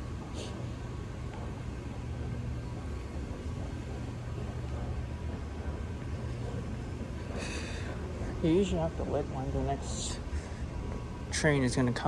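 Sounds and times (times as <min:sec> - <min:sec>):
low hum and rumble of station: 0:00.0 - 0:12.0.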